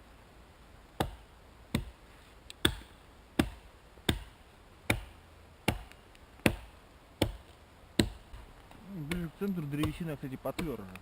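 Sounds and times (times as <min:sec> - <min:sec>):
blade chopping wood: 0:01.0 - 0:02.0, 0:02.6 - 0:11.0.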